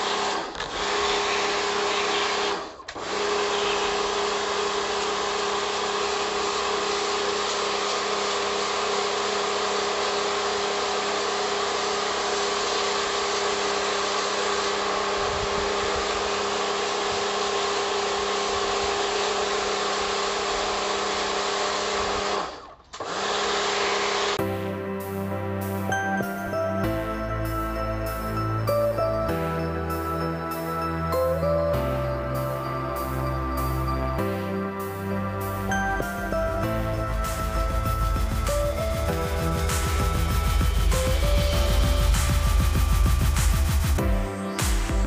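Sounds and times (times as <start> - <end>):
pressure washer motor humming: 0.0 - 45.0.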